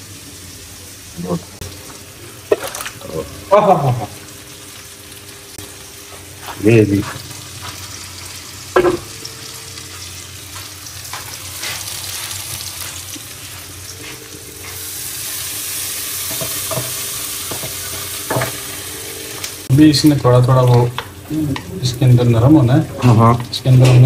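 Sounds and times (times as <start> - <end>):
onions sizzling in a wok: 0.0 - 24.0.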